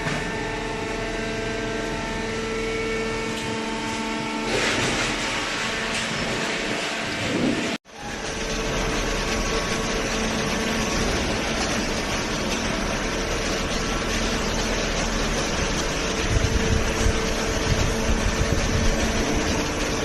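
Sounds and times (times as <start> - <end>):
baler mechanical hum: 0.0 - 20.0.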